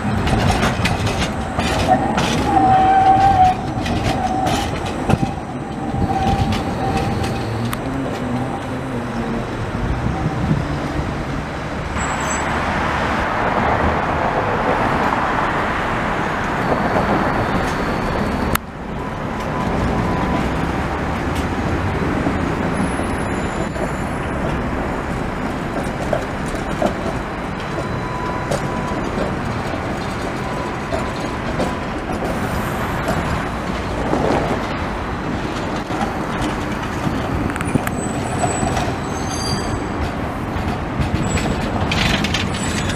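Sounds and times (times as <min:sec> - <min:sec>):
city traffic noise: 0:00.0 - 0:42.9
tram wheels rumbling on rails: 0:00.0 - 0:42.9.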